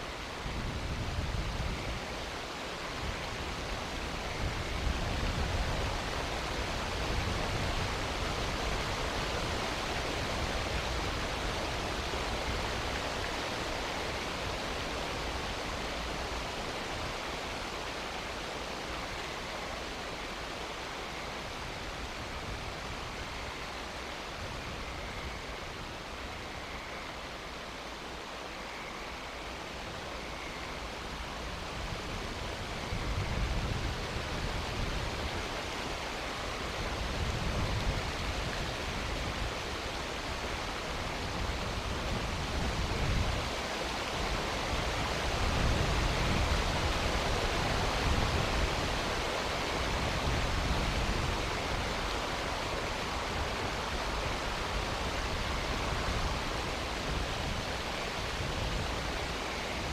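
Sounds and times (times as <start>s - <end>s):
storm hiss: 0.0s - 59.9s.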